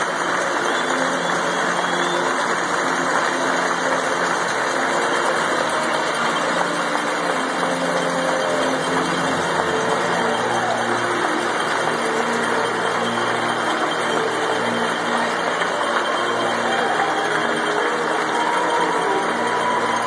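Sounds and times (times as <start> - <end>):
crowd applauding and cheering: 0.0 - 20.0.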